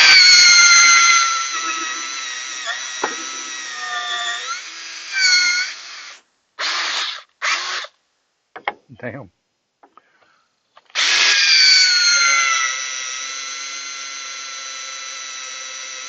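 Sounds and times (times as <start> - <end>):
electric drill boring wood: 0.0 - 7.9, 10.9 - 16.0.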